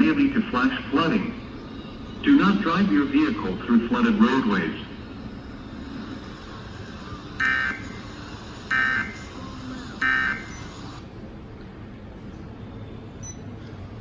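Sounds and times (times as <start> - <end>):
steady radio hiss: 0.0 - 14.0.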